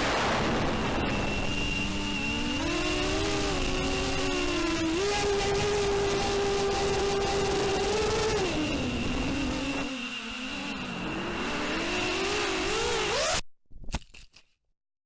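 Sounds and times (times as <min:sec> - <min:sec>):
quadcopter motors whining: 0:00.0 - 0:13.4.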